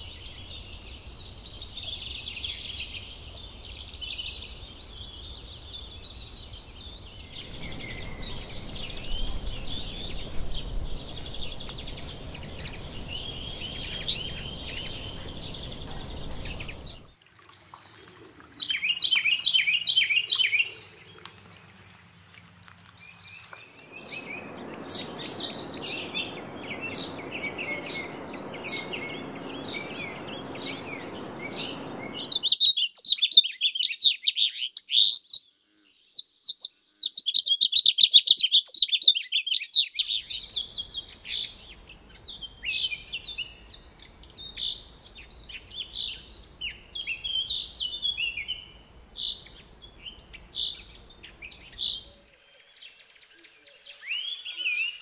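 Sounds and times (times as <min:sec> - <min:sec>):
birds chirping and trilling: 0:00.0 - 0:18.0, 0:18.6 - 0:55.0.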